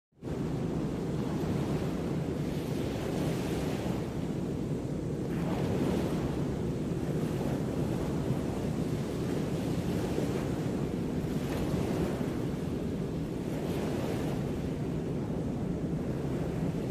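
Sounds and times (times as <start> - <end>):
ocean waves washing in: 0.2 - 16.9.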